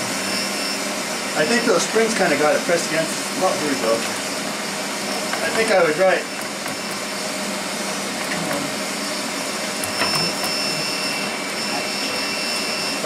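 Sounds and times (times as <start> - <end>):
fan-like machine noise: 0.0 - 13.0.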